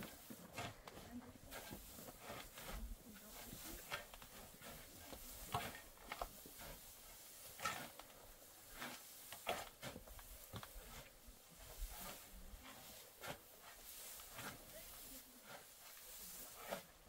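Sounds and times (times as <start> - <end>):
shovels scraping sand: 0.0 - 17.0.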